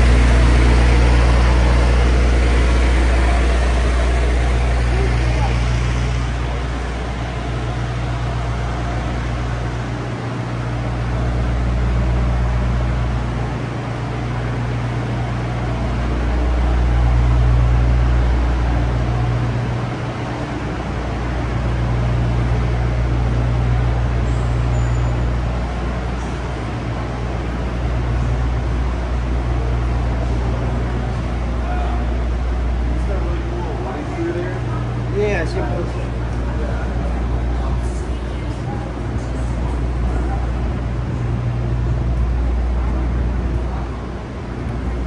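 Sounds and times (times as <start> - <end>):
traffic engine rumble: 0.0 - 45.0.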